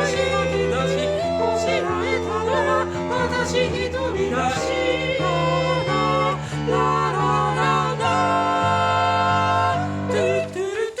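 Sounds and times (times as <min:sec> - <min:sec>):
a cappella choral singing: 0:00.0 - 0:11.0.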